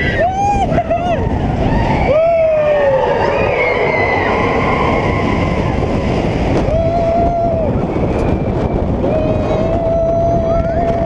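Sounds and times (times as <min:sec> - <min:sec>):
wind rush on camera microphone: 0:00.0 - 0:11.0.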